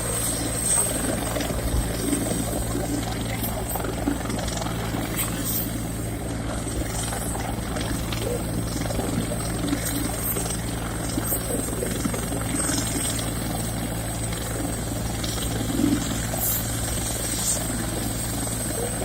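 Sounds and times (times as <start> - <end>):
helicopter rotor drone: 0.0 - 19.0
high-pitched whine: 0.0 - 19.0.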